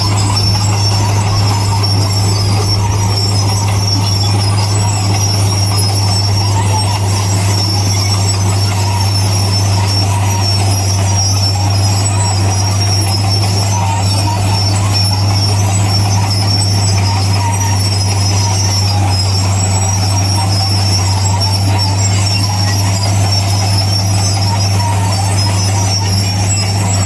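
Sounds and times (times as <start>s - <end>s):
diesel engine hum: 0.0s - 27.0s
high-pitched metallic squeal: 0.0s - 27.0s.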